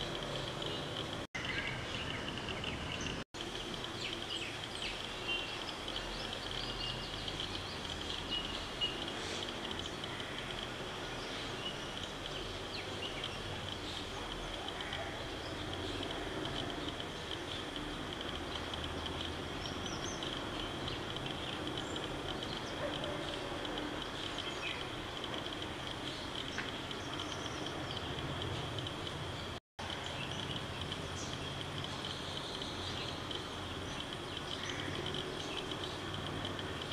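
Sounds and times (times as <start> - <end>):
insects trilling: 0.0 - 36.9.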